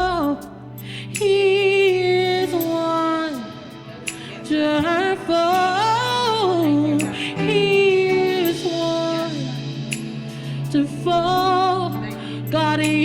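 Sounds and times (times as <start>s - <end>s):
low instrumental backing: 0.0s - 13.0s.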